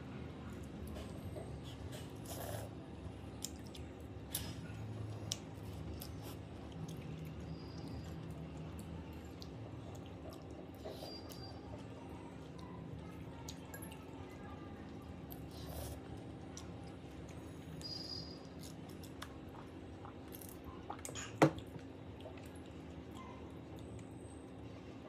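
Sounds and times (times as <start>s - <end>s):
low steady hum: 0.0s - 25.0s
soft chewing: 0.1s - 25.0s.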